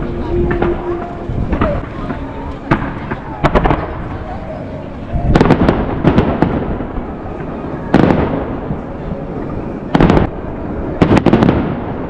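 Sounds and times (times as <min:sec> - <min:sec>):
crowd murmur: 0:00.0 - 0:12.0
fireworks bangs and crackles: 0:00.0 - 0:12.0.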